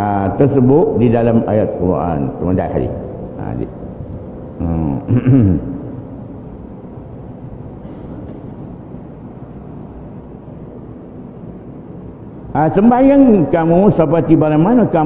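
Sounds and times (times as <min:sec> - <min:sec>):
low rumbling hum: 0:00.0 - 0:15.0.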